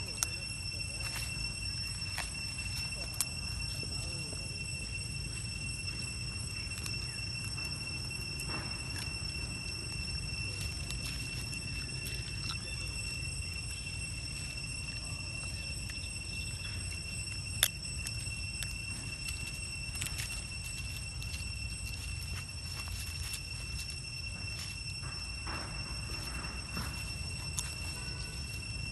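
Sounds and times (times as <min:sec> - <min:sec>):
dry leaf litter rustling: 0:00.0 - 0:28.9
high-pitched whine: 0:00.0 - 0:28.9.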